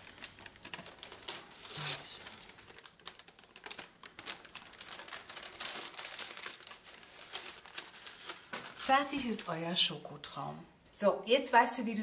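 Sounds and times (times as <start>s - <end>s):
baking paper crinkling: 0.0s - 9.6s.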